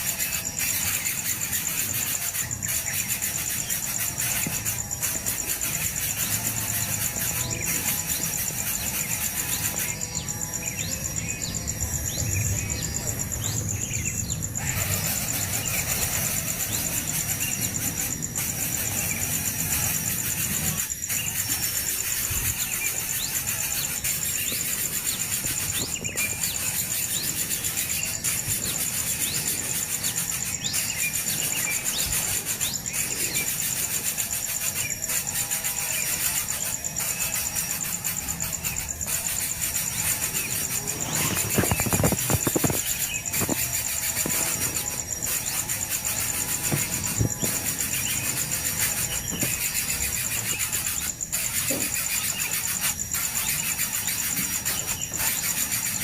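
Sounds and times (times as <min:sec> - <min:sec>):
bird chirps: 0:00.0 - 0:56.0
high-pitched insect drone: 0:00.0 - 0:56.0.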